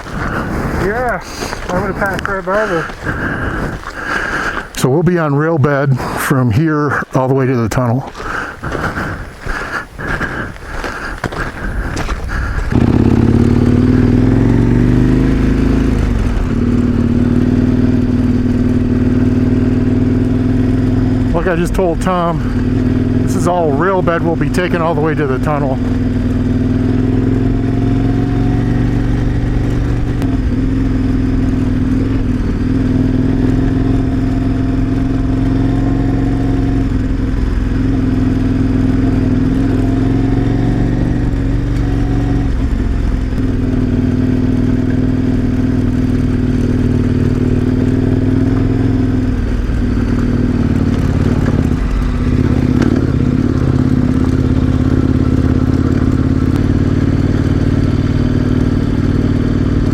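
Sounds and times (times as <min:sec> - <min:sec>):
motorcycle engine running: 0:00.0 - 0:05.8, 0:08.1 - 0:59.9.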